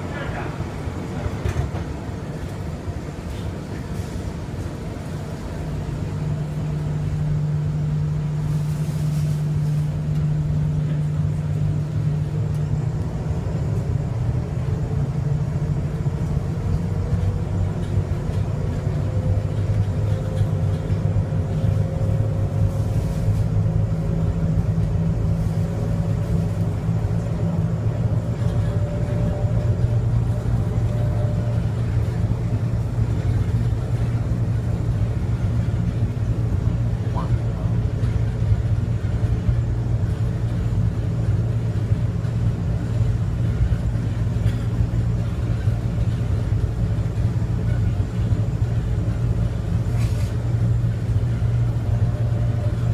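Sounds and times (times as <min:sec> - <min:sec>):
low drone of train tyres: 0:00.0 - 0:52.9.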